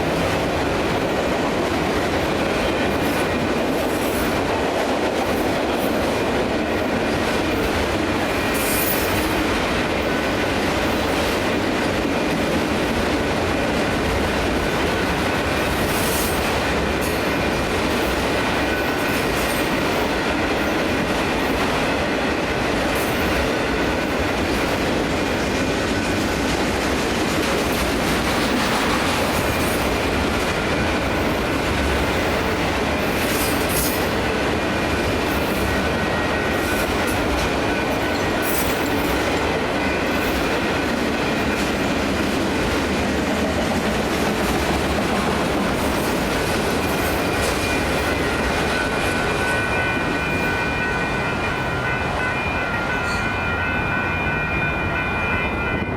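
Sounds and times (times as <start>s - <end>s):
train rumbling past: 0.0s - 55.9s.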